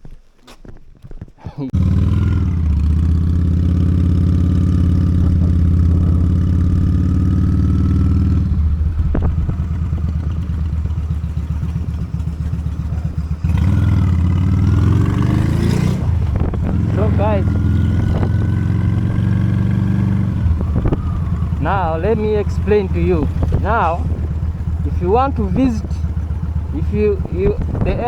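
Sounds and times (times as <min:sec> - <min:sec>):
motorcycle engine running: 0:01.6 - 0:28.0.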